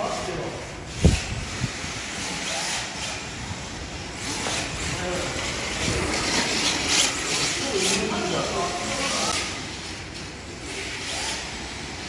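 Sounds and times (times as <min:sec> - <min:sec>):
voices in a hall: 0:00.0 - 0:12.0
toy car tyres hissing: 0:00.1 - 0:12.0.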